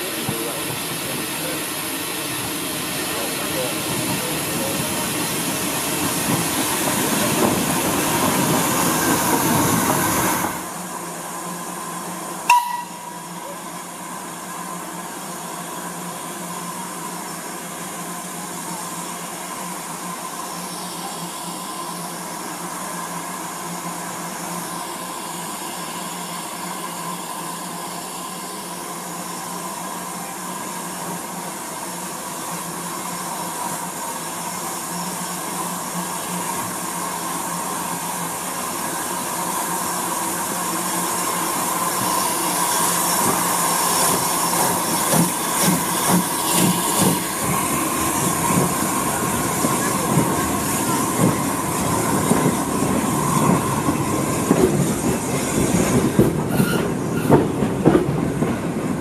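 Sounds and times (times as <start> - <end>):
steam locomotive hissing steam: 0.0 - 59.0
steam train pulling away: 0.0 - 59.0.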